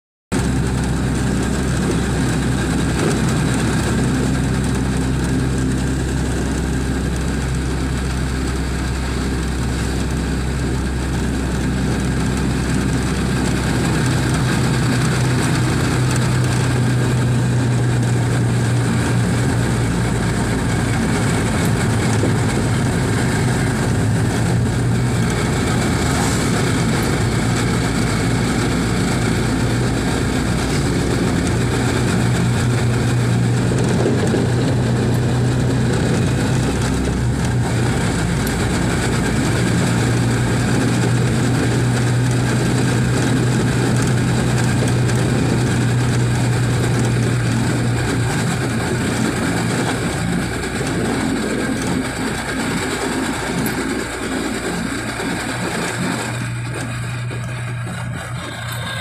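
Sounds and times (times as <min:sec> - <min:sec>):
vehicle engine and tyres humming: 0:00.3 - 0:59.0.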